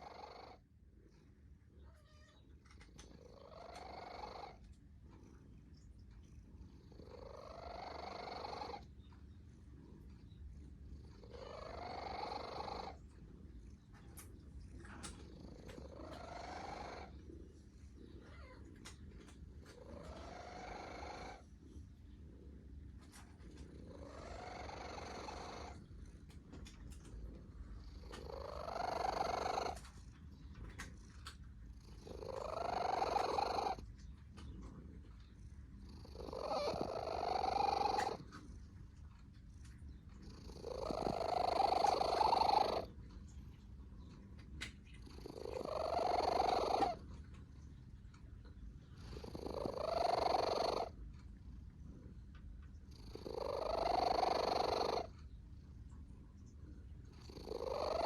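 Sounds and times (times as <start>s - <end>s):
cat snoring: 0.0s - 1.4s, 3.0s - 9.1s, 9.7s - 39.0s, 39.6s - 43.3s, 44.1s - 47.3s, 48.8s - 55.9s, 56.5s - 58.0s.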